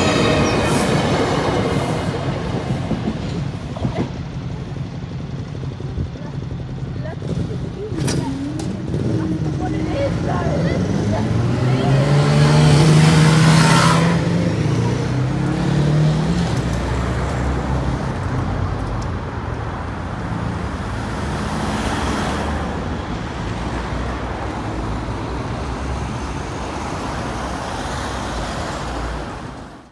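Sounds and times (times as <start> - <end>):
road traffic noise: 0.0 - 29.9.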